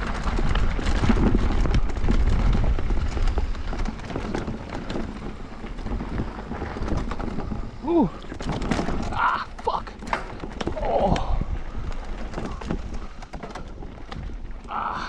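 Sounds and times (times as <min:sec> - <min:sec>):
bike knocking and rattling: 0:00.0 - 0:15.0
tyre noise on dirt and rocks: 0:00.0 - 0:15.0
wind buffeting microphone: 0:00.0 - 0:15.0.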